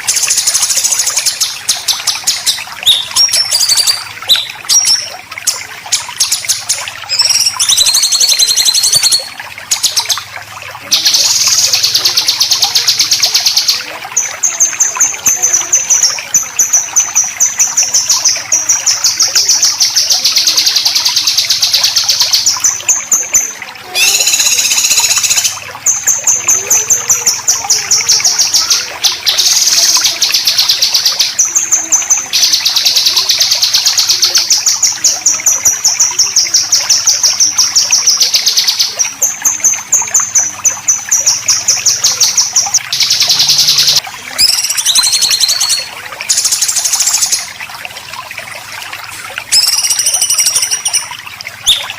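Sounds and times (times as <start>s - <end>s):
songbird rattling song: 0.0s - 10.3s, 11.0s - 47.6s, 49.5s - 51.9s
faint trickle of water: 0.0s - 51.9s.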